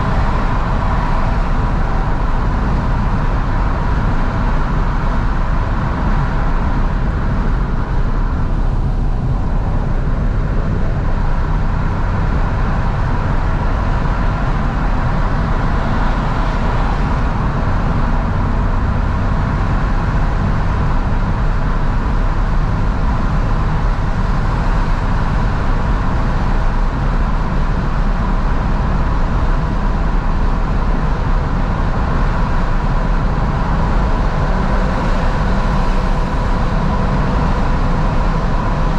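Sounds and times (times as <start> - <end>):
car engine running: 0.0 - 38.9
road and wind noise: 0.0 - 38.9.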